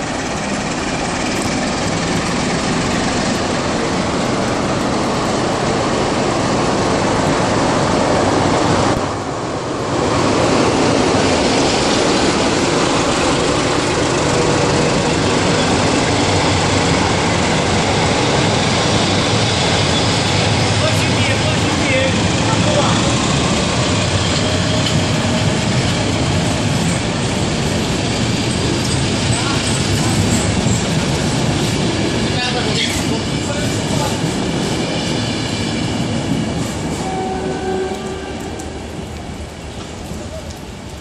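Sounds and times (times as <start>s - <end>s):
coaches wheels on rails: 0.0s - 41.0s
diesel locomotive passing: 0.0s - 41.0s.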